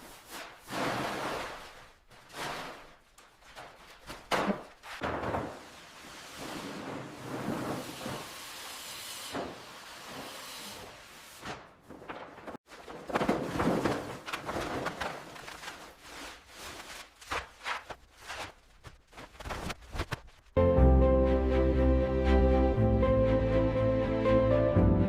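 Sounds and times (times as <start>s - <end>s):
renovation knocks and scraping: 0.0s - 20.4s.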